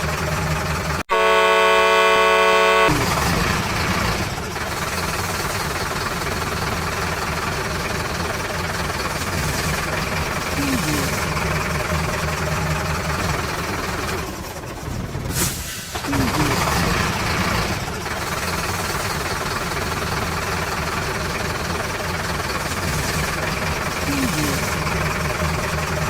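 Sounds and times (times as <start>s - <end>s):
vehicle engine running: 0.0s - 15.4s, 16.0s - 26.0s.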